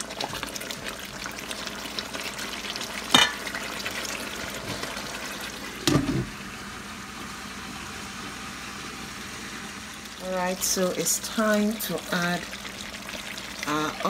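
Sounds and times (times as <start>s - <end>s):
pot bubbling and simmering: 0.0s - 14.0s.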